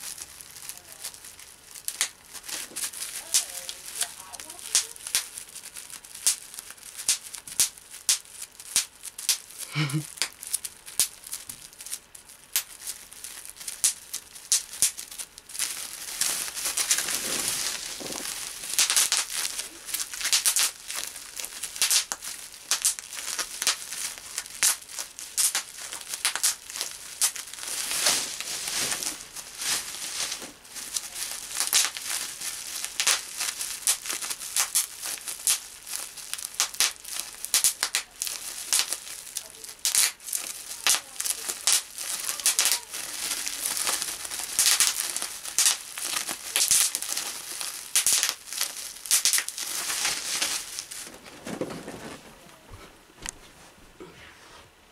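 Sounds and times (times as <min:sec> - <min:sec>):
bubble wrap popping: 0:00.0 - 0:53.4
plastic sheet crinkling: 0:00.0 - 0:53.8.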